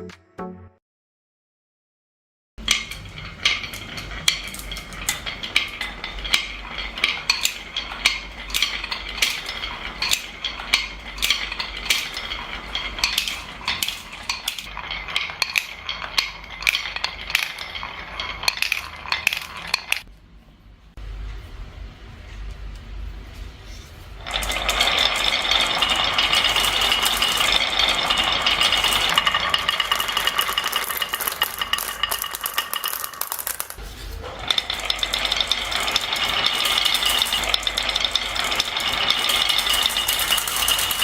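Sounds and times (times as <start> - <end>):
marbles clattering down marble run: 2.6 - 20.1, 24.2 - 41.0.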